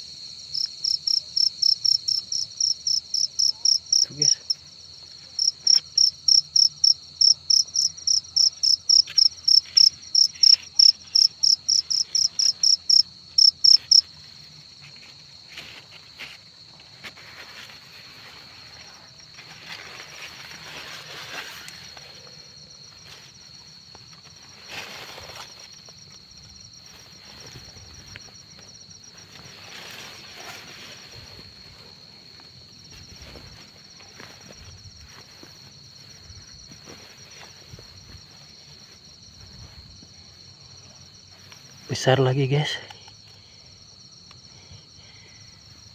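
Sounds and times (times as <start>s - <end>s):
cricket chirping loudly: 0.0s - 14.7s, 18.2s - 45.9s
distant cricket chirping: 0.0s - 45.9s
high insect drone: 0.0s - 45.9s.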